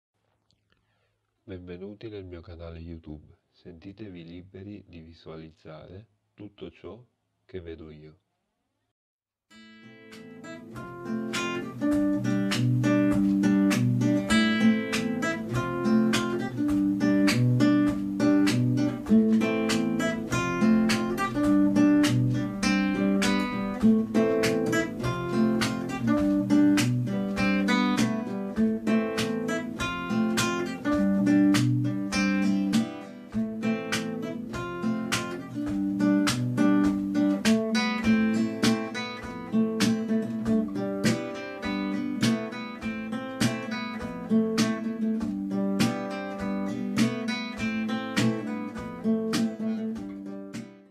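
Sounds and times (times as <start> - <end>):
strummed acoustic guitar: 9.5 - 50.9.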